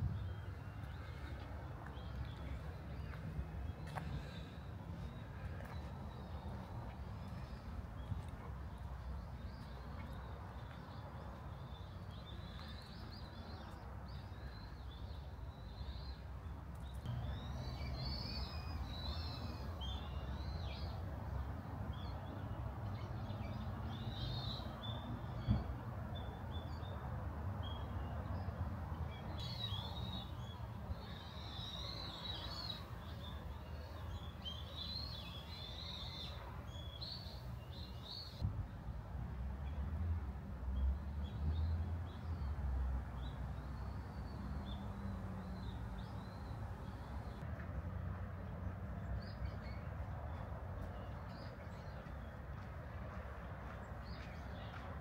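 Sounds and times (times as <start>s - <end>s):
small songbirds chirping: 0.0s - 38.8s, 40.8s - 47.5s.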